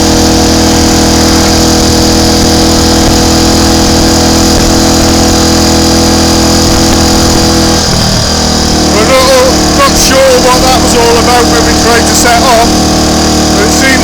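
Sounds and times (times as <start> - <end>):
single-cylinder motorcycle engine running: 0.0 - 14.0.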